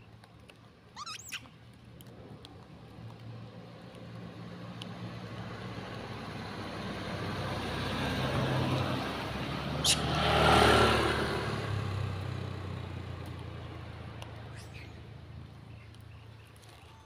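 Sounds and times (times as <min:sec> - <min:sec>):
vehicle passing by: 0:02.0 - 0:16.8.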